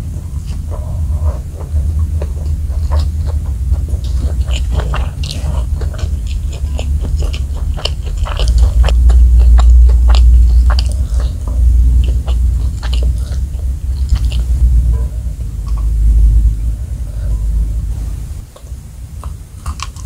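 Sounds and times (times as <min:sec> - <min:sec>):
close-miked chewing: 0:00.0 - 0:20.0
steady low rumble: 0:00.0 - 0:20.0.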